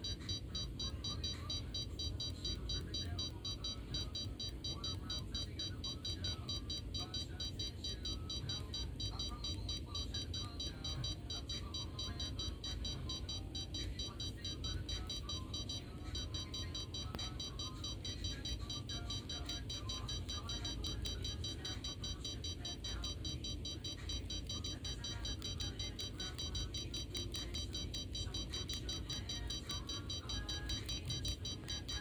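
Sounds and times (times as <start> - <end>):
pulsing high electronic tones: 0.0 - 32.0.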